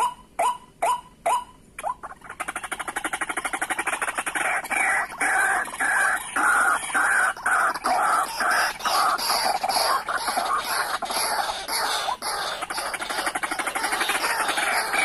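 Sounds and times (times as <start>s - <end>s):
waterhen clucking calls: 0.0s - 15.0s.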